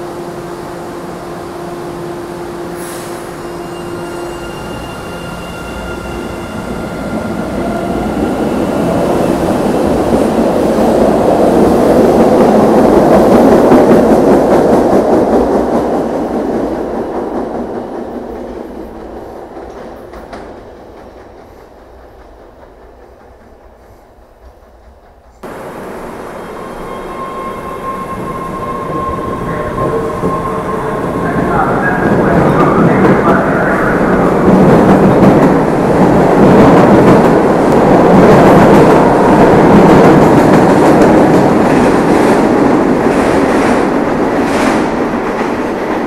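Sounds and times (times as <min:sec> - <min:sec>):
train running on rails: 0:00.0 - 0:46.0.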